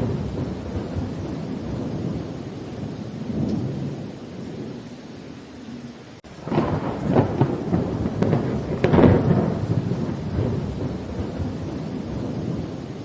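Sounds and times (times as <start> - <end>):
thunderclap with rolling rumble: 0.0 - 4.8, 6.3 - 13.0
steady rain: 0.0 - 13.0.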